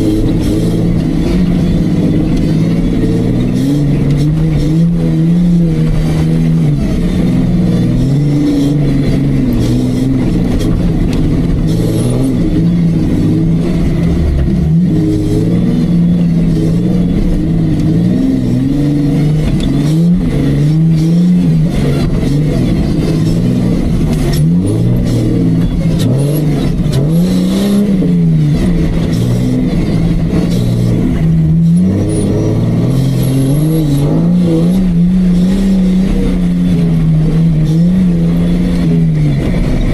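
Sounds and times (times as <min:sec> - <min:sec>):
engine revving under load: 0:00.0 - 0:39.9.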